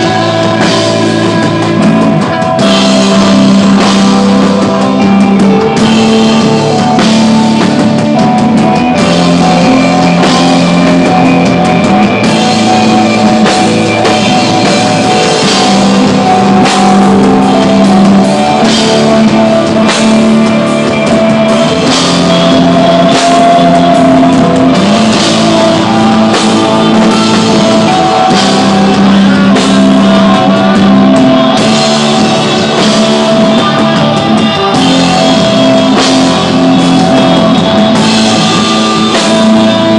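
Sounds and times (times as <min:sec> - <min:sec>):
bass guitar: 0:00.0 - 0:39.9
drum kit with cymbal hits: 0:00.0 - 0:39.9
electric guitar: 0:00.0 - 0:39.9.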